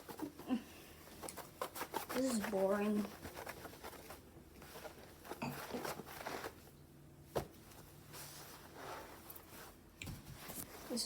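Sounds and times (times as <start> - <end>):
soft handling rustling and scraping: 0.0 - 11.0.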